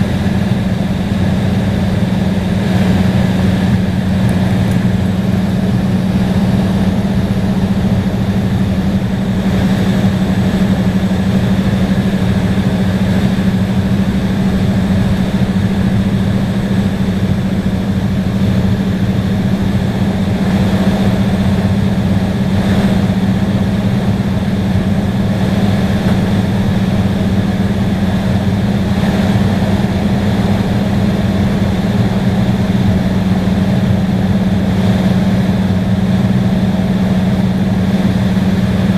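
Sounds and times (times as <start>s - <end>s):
jet cabin drone: 0.0s - 38.9s
low hum: 0.0s - 38.9s.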